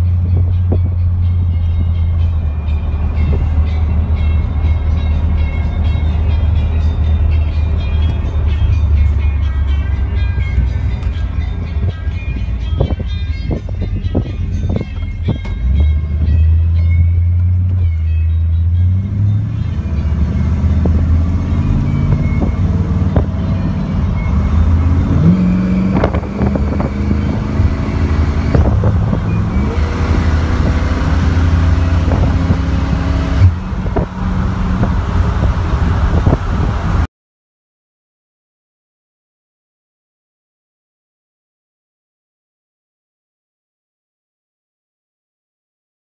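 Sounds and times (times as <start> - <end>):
car engine accelerating: 0.0 - 37.1.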